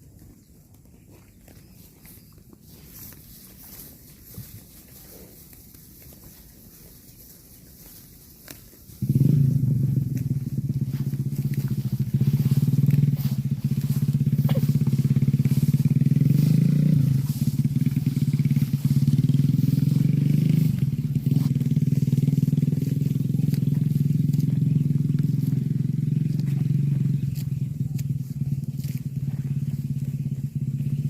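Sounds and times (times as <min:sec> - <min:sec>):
small engine running: 0:02.1 - 0:31.0.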